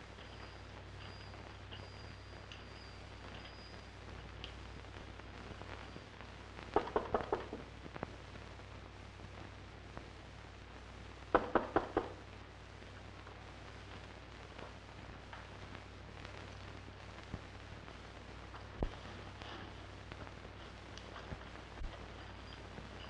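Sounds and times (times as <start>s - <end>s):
film soundtrack hum and hiss: 0.0s - 23.0s.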